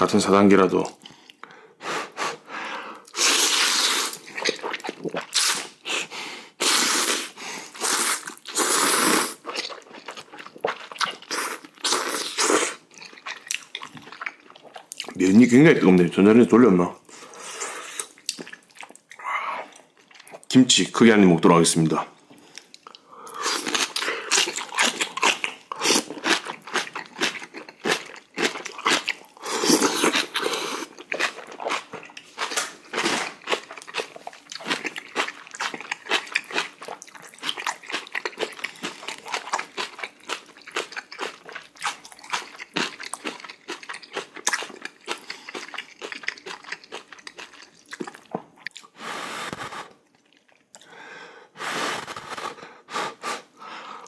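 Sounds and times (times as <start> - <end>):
person crunching and chewing: 3.1 - 15.2, 17.1 - 20.4, 22.4 - 51.0.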